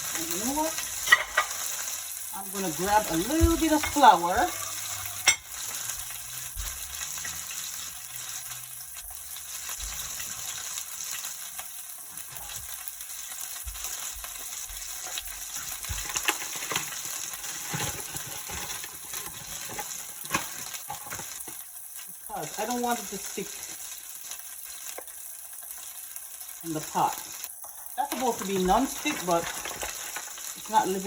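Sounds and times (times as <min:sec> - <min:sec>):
fish frying in hot oil: 0:00.0 - 0:31.0.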